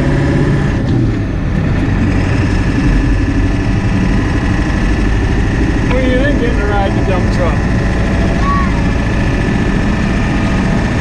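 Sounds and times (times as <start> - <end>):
pickup engine running: 0.0 - 11.0.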